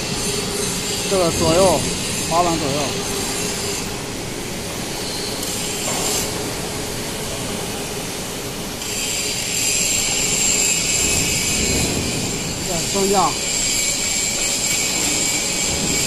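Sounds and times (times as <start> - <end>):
steady machine drone: 0.0 - 16.0.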